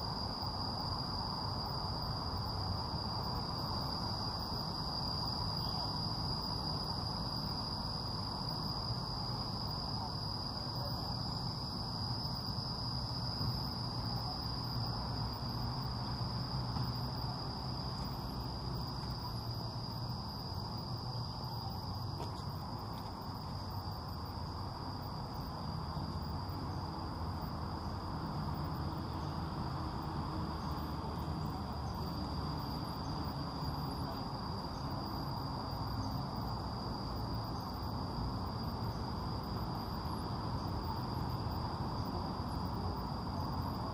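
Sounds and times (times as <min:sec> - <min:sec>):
insects high-pitched drone: 0:00.0 - 0:43.9.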